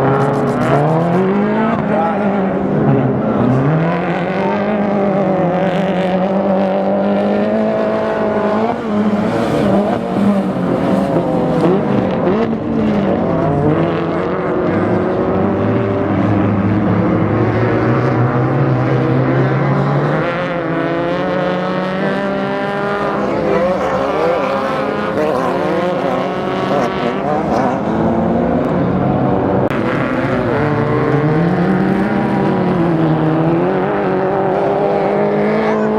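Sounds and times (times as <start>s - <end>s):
race car engine revving: 0.0s - 35.9s.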